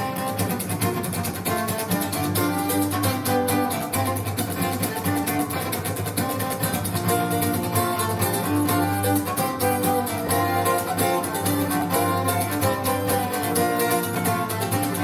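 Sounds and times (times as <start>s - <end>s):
instrumental string music over loudspeakers: 0.0s - 15.0s.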